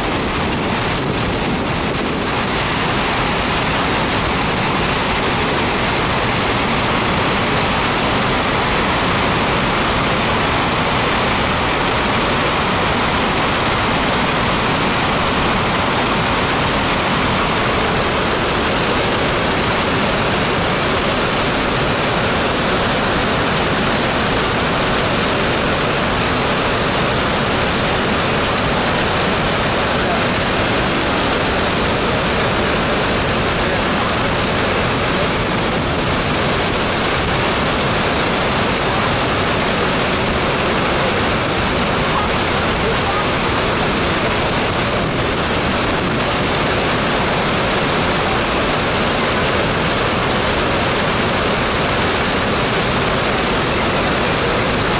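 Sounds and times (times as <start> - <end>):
floodwater rushing down spillway: 0.0 - 54.9.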